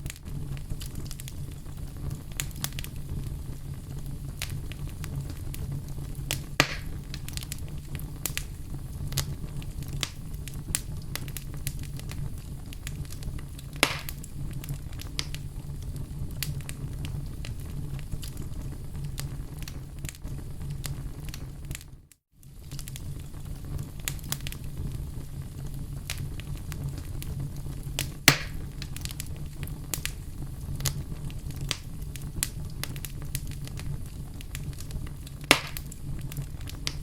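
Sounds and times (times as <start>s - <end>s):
burning wood popping: 0.0s - 37.0s
fire crackling in a fireplace: 0.0s - 37.0s.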